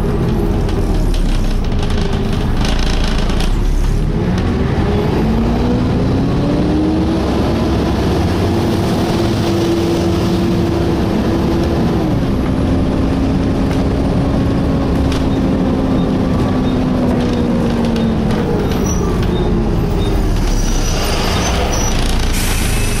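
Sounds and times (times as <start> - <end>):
bus engine drone: 0.0 - 23.0
engine whine: 0.0 - 23.0.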